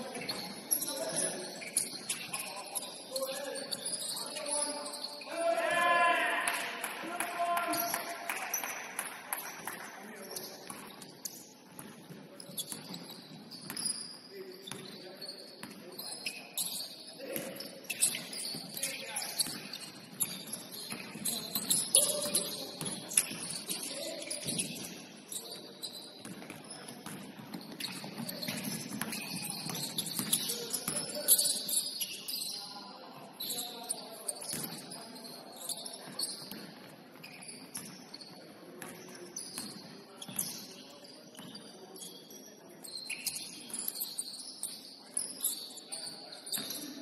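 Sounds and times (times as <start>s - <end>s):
sneakers squeaking on hardwood: 0.0s - 5.4s, 10.2s - 32.8s, 33.4s - 47.0s.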